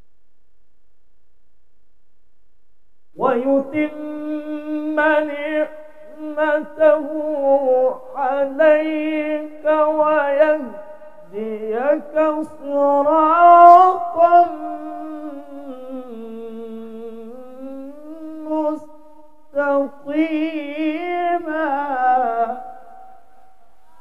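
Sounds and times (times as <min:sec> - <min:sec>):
man reciting melodically: 0:03.2 - 0:24.0.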